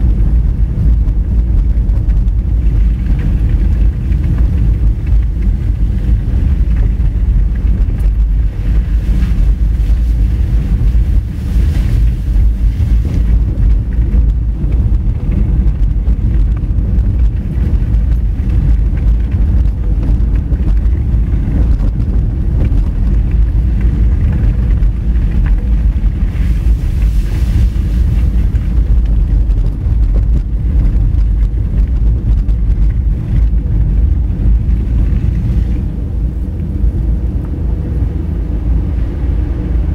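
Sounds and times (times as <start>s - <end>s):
tyres rumbling on gravel: 0.0s - 39.9s
wind noise on microphone: 0.0s - 39.9s.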